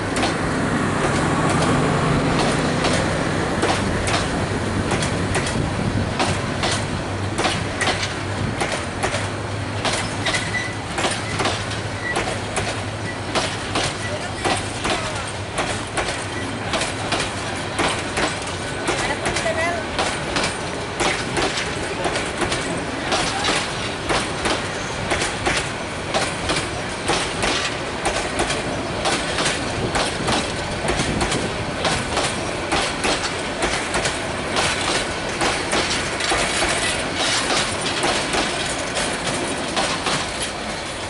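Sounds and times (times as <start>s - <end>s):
train wheels rumbling: 0.0s - 41.0s
wheels clacking over rail joints: 0.0s - 41.0s.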